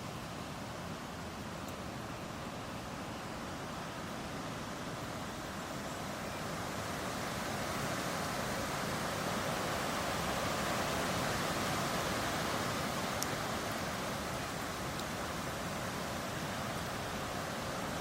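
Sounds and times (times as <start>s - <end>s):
wind rustling tree leaves: 0.0s - 18.0s.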